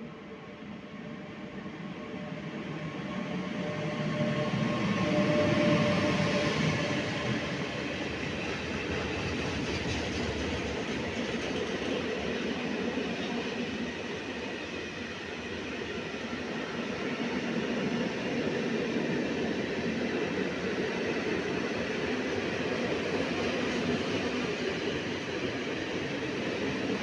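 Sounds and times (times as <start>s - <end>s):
electric locomotive passing: 0.4s - 27.0s.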